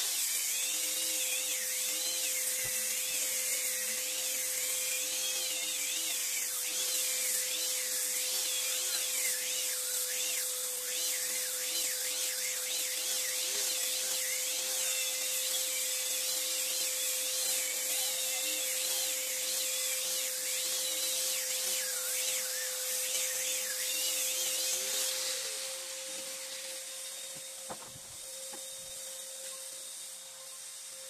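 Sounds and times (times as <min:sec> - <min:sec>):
angle grinder sanding wood: 0:00.0 - 0:31.0.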